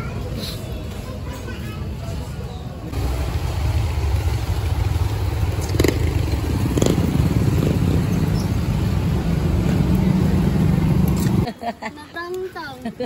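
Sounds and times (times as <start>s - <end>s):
vehicle engine and road rumble: 0.0s - 11.6s.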